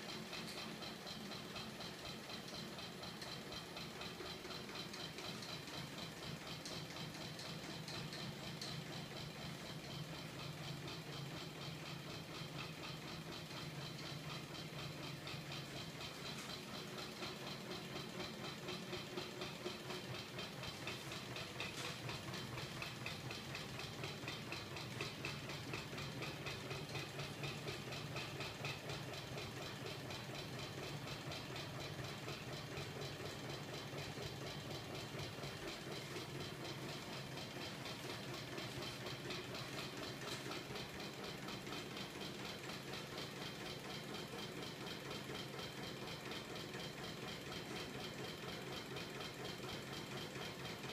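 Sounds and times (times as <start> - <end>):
fast mechanical rattle: 0.0 - 50.9
steady low motor hum: 0.0 - 50.9.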